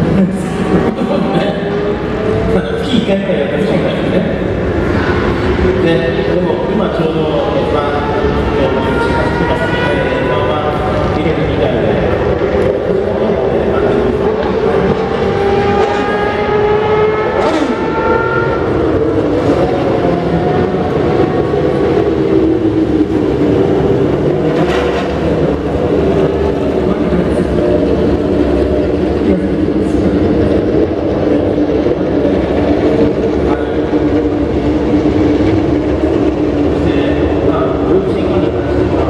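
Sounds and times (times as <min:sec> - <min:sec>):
racing car and motorcycle engines: 0:00.0 - 0:39.0.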